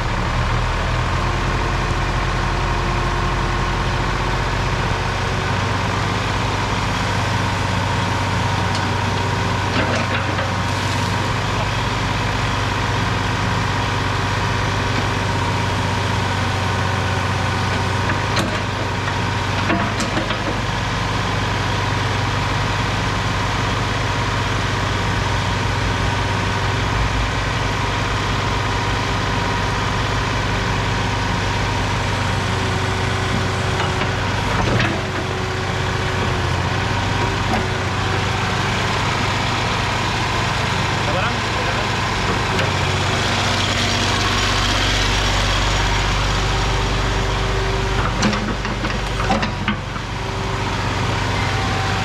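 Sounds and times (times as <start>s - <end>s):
excavator engine idling: 0.0s - 52.0s.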